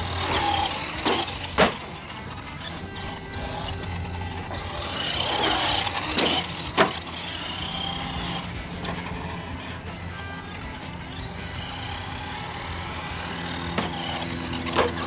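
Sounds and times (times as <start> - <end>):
electric motor whining: 0.0 - 15.0
toy truck banging on ground: 0.0 - 15.0.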